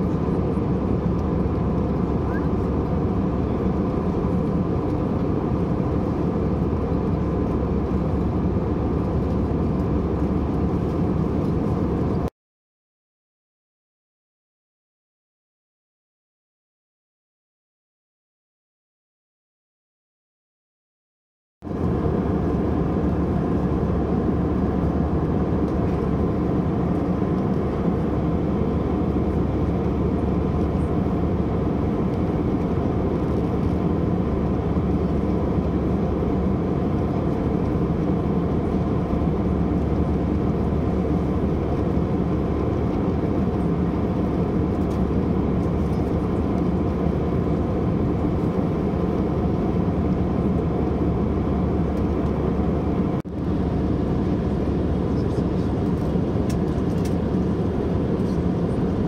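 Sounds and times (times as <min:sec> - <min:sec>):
jet engines roaring: 0:00.0 - 0:12.3, 0:21.7 - 0:59.0.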